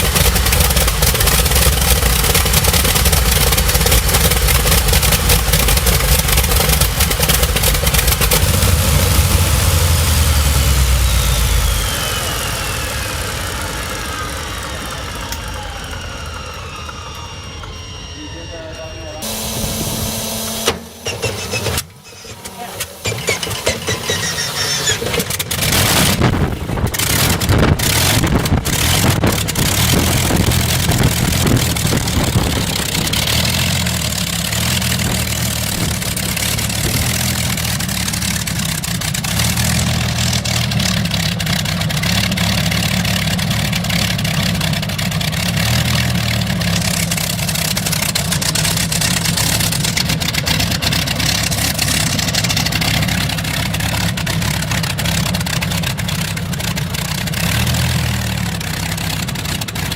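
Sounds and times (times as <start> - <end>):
propeller aircraft engine running: 0.0 - 59.9.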